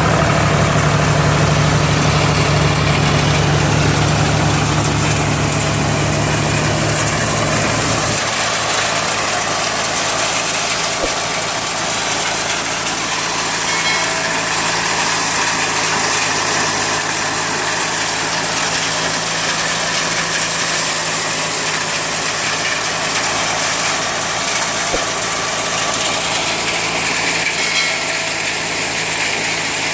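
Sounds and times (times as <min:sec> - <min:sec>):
thresher mechanical din: 0:00.0 - 0:29.8
tractor diesel engine running: 0:00.0 - 0:29.9.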